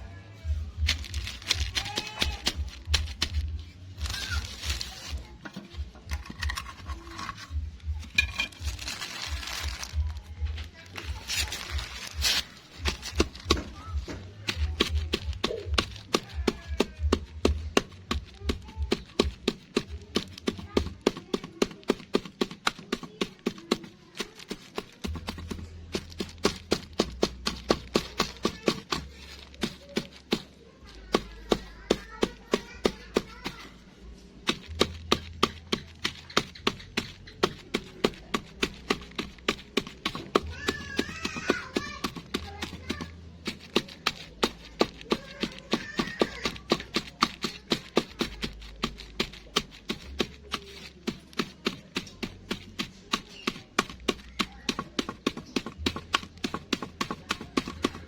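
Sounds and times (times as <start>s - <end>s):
pellets being pounded: 0.7s - 58.0s.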